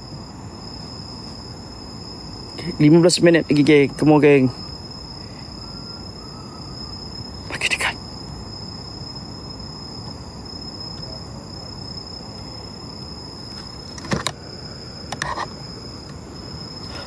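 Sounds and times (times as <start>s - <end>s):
steady hiss: 0.0s - 6.3s, 7.1s - 17.0s.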